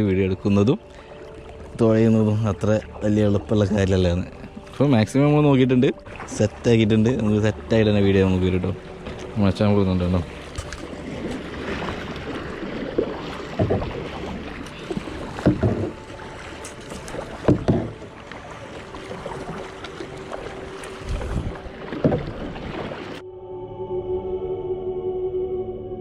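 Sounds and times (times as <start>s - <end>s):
kayak paddle splashing: 0.0s - 23.2s
moving water: 0.0s - 23.2s.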